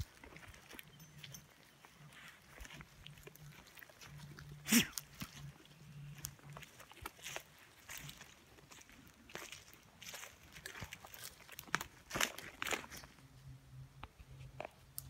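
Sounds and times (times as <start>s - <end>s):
footsteps crunching through dry leaves: 0.0s - 13.3s.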